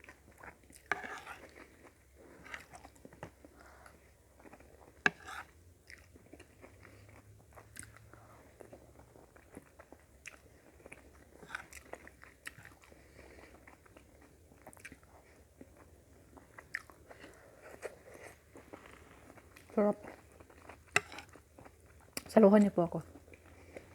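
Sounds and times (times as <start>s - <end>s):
person chewing food: 0.0s - 22.3s, 23.1s - 23.9s.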